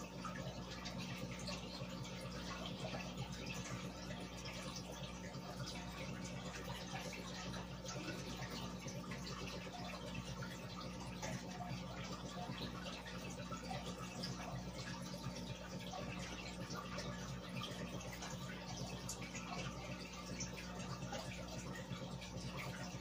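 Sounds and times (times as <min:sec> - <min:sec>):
aquarium air bubbling: 0:00.0 - 0:23.0
steady low hum: 0:00.0 - 0:23.0.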